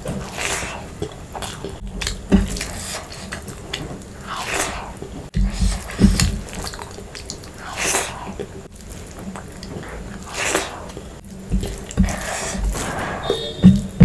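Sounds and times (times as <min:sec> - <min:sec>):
chewing and wet mouth sounds: 0:00.0 - 0:14.0.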